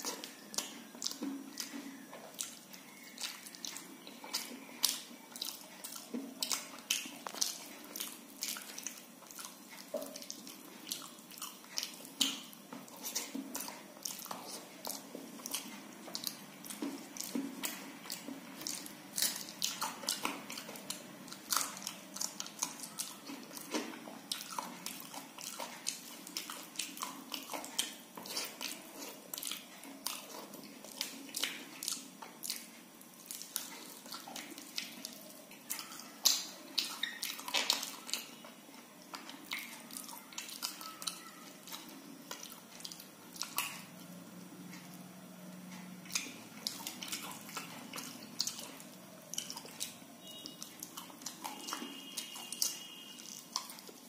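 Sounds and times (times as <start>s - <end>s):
person chewing soft food: 0.0s - 54.0s.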